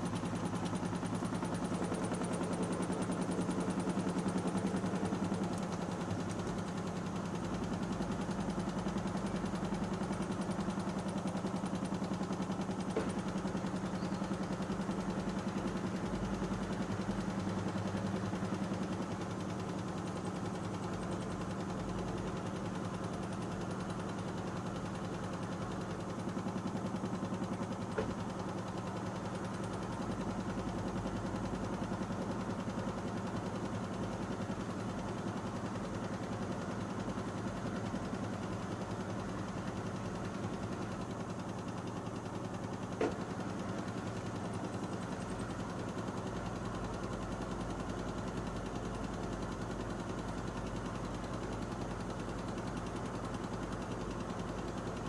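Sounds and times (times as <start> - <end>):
washing machine drum humming and rattling: 0.0 - 55.0.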